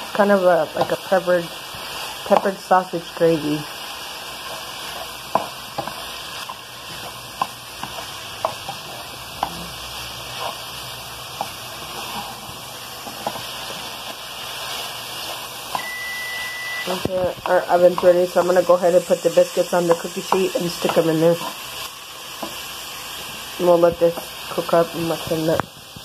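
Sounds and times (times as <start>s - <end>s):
sausage sizzling in a skillet: 0.0s - 26.0s.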